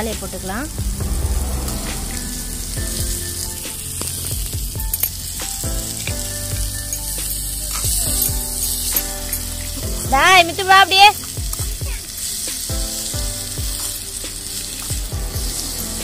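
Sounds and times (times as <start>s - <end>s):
vegetables sizzling in butter: 0.0s - 16.0s.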